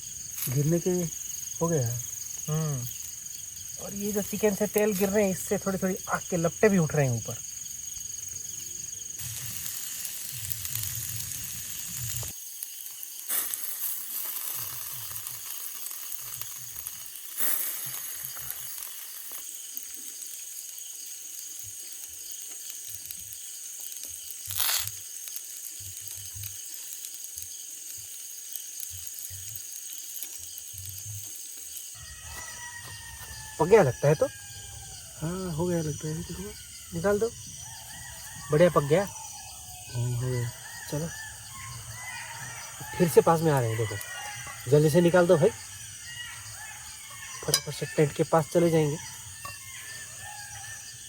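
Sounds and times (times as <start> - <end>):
chicken sizzling over fire: 0.0 - 51.0
fire popping: 0.0 - 51.0.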